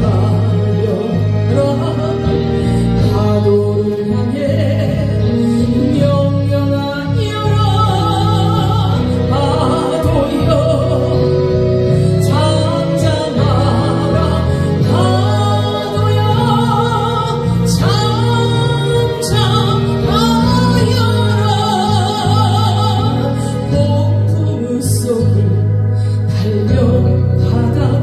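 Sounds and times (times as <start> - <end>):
instrumental accompaniment with bass: 0.0 - 28.0
woman singing into microphone: 0.0 - 28.0.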